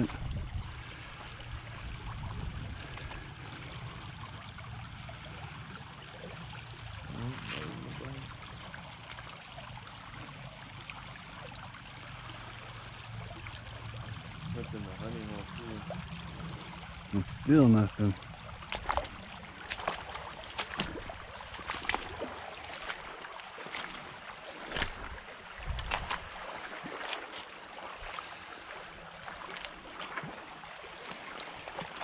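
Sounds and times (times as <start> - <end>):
creek babbling over gravel: 0.0 - 32.0.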